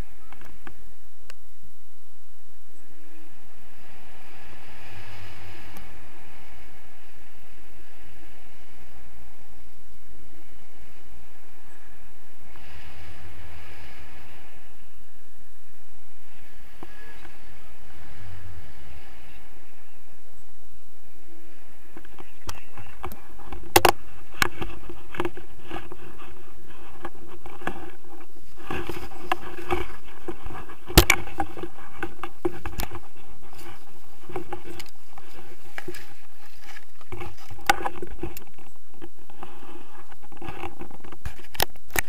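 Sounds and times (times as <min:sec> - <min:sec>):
wind rushing: 0:02.5 - 0:41.2.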